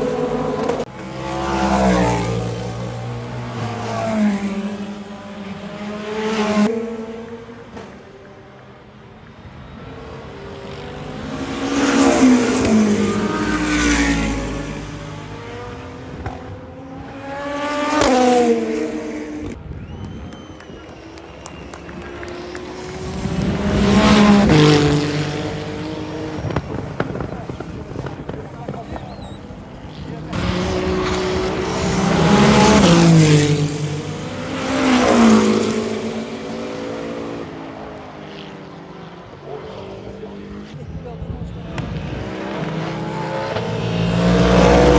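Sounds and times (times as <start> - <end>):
race cars passing at speed: 0.0 - 44.9.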